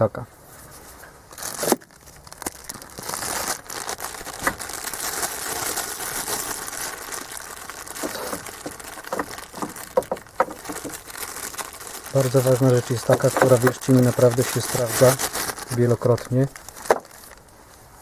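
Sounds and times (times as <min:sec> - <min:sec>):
rustling and crinkling handling: 0:00.4 - 0:18.0.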